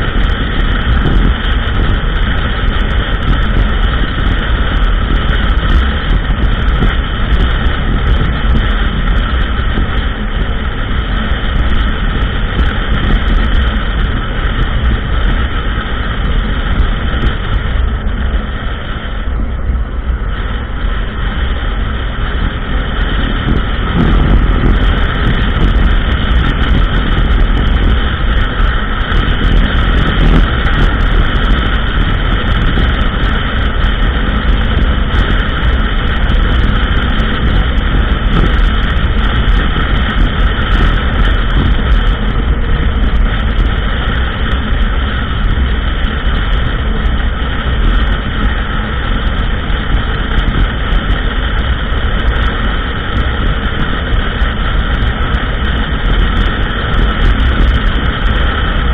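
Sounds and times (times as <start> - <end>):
atv engine running: 0.0 - 58.9.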